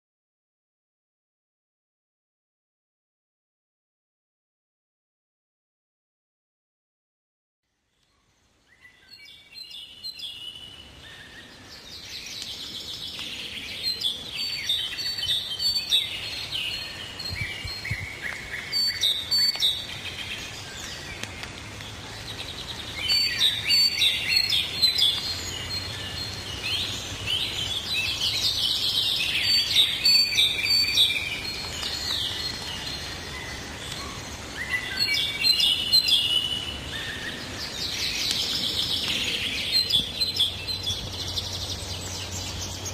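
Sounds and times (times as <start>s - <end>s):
songbirds chirping and singing: 7.7s - 42.9s.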